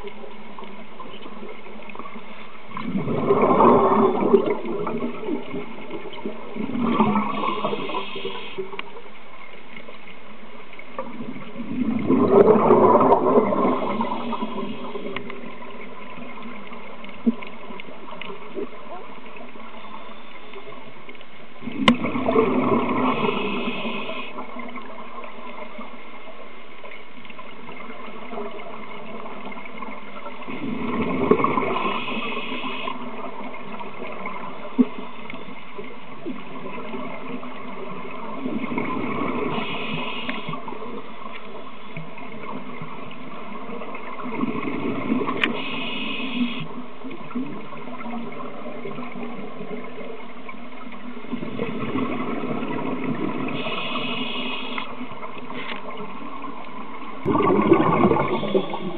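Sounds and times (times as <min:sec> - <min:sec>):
exhaled bubbles gurgling: 0:00.0 - 0:58.9
underwater background drone: 0:00.0 - 0:58.9.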